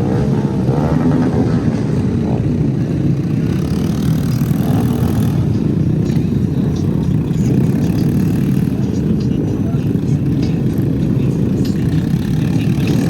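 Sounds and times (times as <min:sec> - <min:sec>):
motorcycle and scooter engines running: 0:00.0 - 0:13.0.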